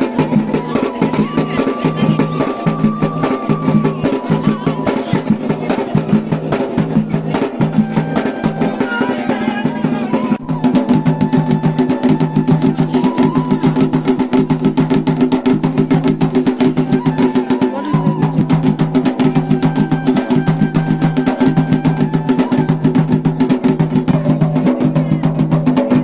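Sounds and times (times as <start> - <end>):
folk drums beating fast rhythm: 0.0 - 26.0.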